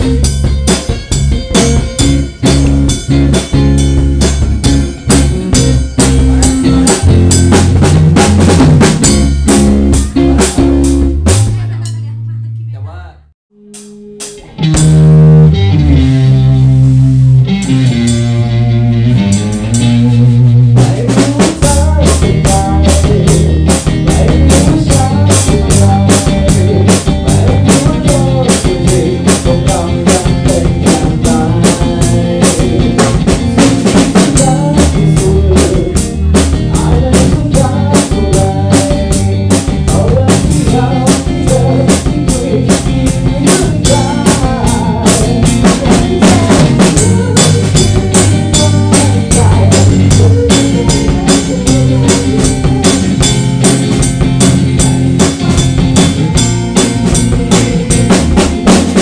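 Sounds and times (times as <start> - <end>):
electric guitars playing chords: 0.0 - 12.1, 13.5 - 59.0
drum kit playing beat: 0.0 - 12.6, 13.6 - 59.0.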